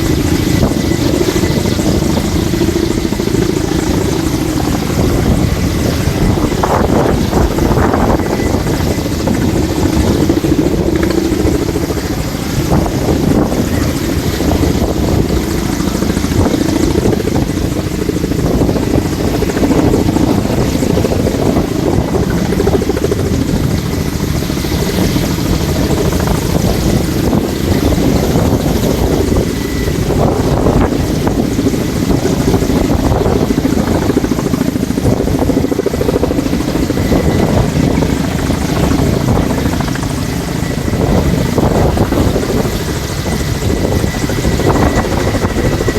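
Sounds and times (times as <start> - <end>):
helicopter rotor roar: 0.0 - 45.9
wind on microphone: 0.0 - 45.9.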